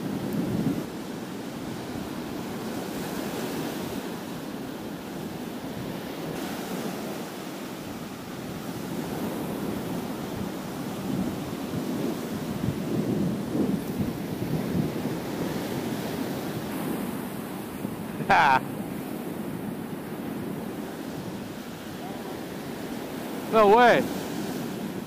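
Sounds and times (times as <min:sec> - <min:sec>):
ocean surf washing onto beach: 0:00.0 - 0:25.0
wind buffeting microphone: 0:00.0 - 0:25.0.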